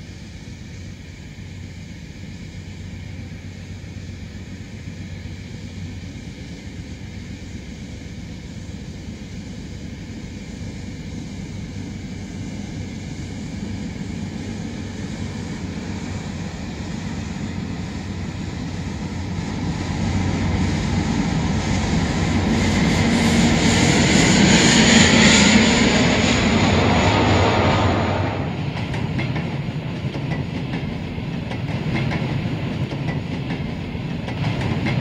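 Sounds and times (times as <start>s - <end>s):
high turbine whine: 0.0s - 35.0s
turbine locomotive roar: 0.0s - 35.0s.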